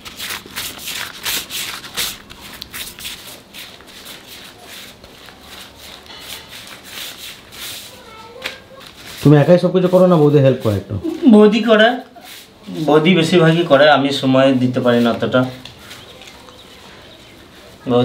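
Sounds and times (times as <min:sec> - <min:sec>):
dough rubbing swishes: 0:00.0 - 0:18.0.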